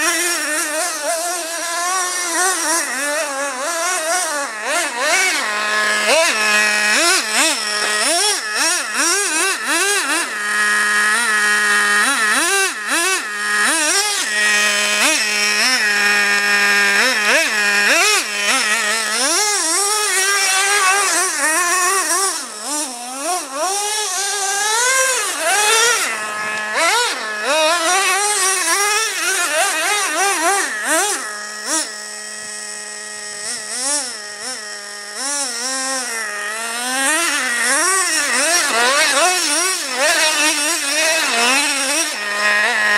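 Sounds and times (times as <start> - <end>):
rc truck engine revving: 0.0 - 42.9.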